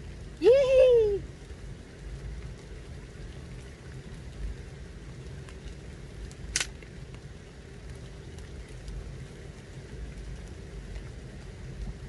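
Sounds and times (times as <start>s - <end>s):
light rain ticking: 0.0s - 12.0s.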